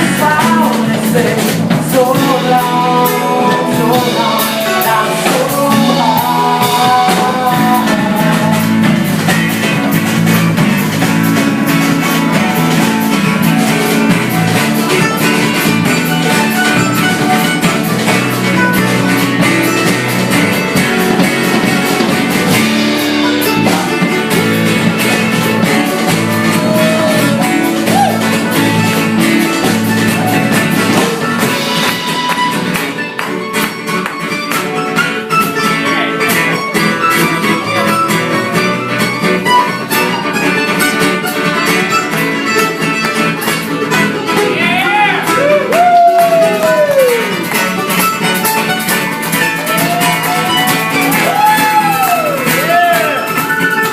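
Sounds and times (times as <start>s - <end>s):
acoustic string band playing: 0.0s - 53.9s.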